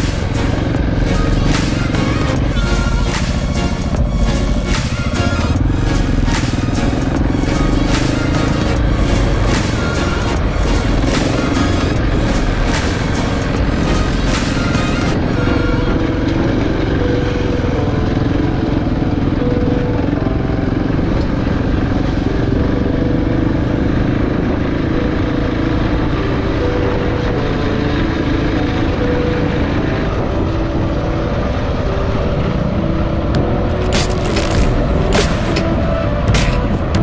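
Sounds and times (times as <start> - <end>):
motorcycle engine running: 0.0 - 31.8, 32.4 - 37.0.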